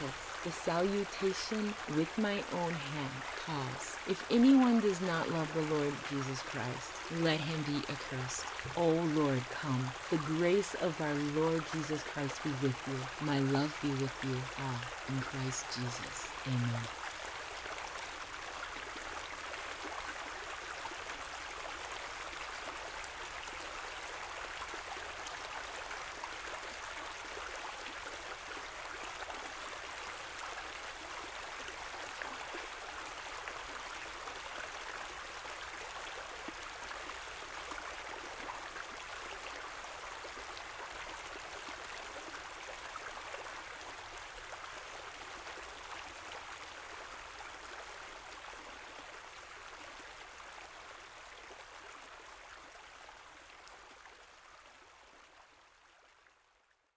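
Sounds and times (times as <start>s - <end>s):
water trickling over rocks: 0.0s - 56.1s.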